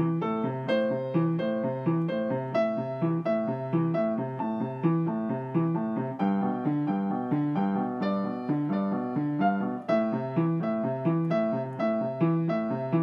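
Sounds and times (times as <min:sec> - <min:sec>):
piano broken chords: 0:00.0 - 0:13.0.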